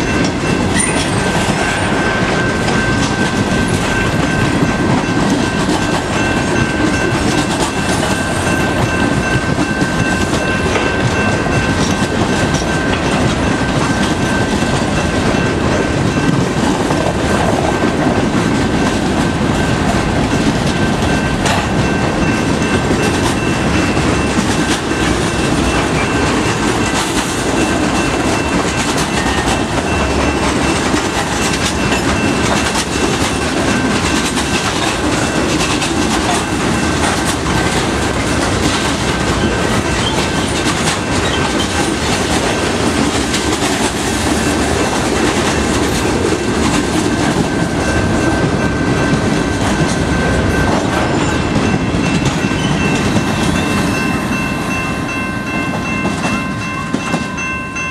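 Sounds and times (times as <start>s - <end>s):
freight train wheels clacking on rails: 0.0s - 57.9s.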